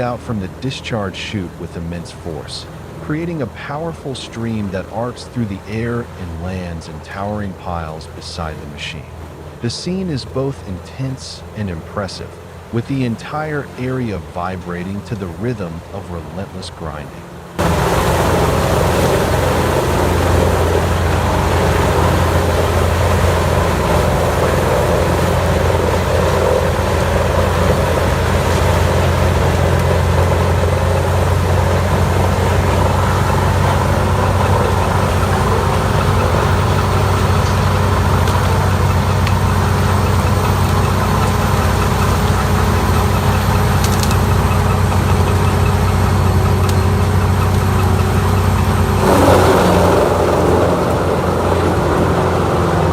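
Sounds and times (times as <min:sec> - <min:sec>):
wood grinder engine drone: 0:00.0 - 0:52.9.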